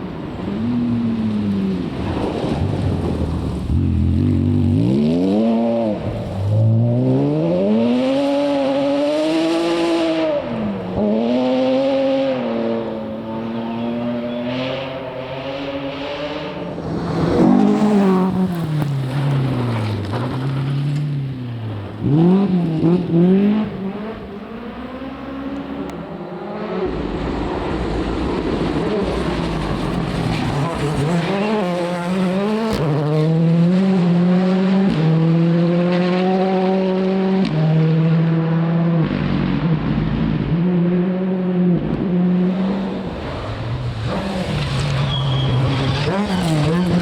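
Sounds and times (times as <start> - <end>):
rally car engine revving: 0.2 - 47.0.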